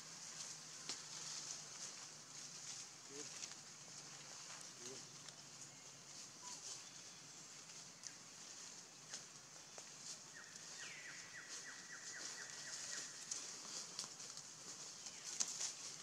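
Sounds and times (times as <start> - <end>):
insect hiss: 0.0 - 16.0
twigs and leaves clicking: 0.3 - 5.7, 7.6 - 10.8, 11.5 - 16.0.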